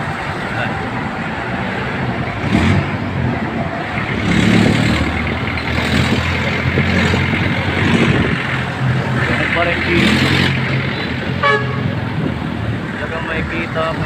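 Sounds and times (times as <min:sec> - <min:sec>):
wind noise: 0:00.0 - 0:14.0
vehicle engine running: 0:02.1 - 0:14.0.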